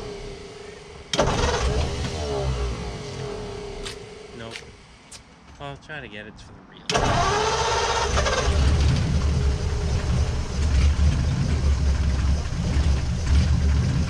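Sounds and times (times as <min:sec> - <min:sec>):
engine idling unevenly: 0:00.0 - 0:14.0.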